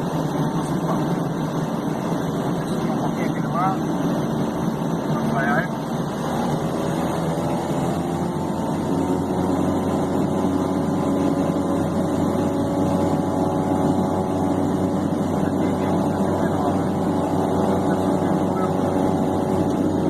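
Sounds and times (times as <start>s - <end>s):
turboprop engines idling: 0.0s - 20.0s.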